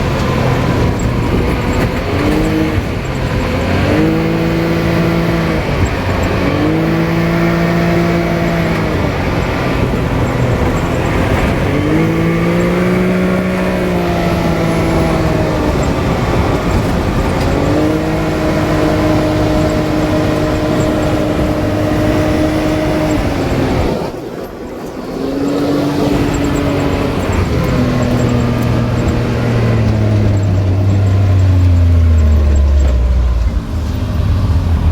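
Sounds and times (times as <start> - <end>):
off-road vehicle engine revving: 0.0 - 34.9
steady rushing noise: 0.0 - 34.9.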